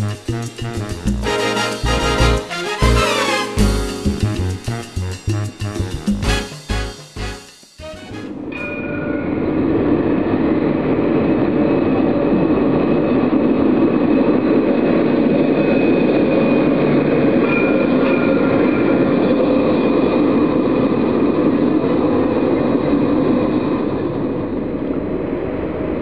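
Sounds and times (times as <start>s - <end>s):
tram running rumble: 0.0s - 26.0s.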